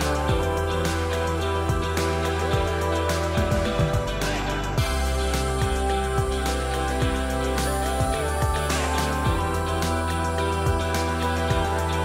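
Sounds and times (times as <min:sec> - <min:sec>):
instrumental music with drum beat: 0:00.0 - 0:10.1.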